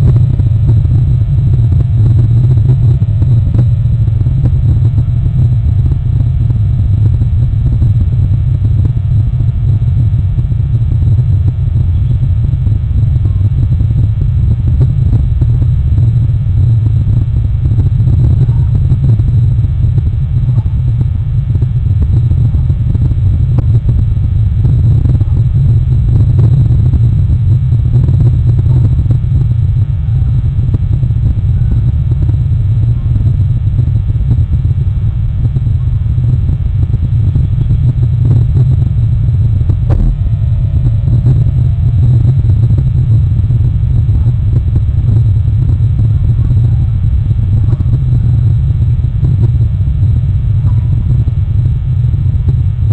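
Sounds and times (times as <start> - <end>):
loud low rumble: 0.0 - 52.9.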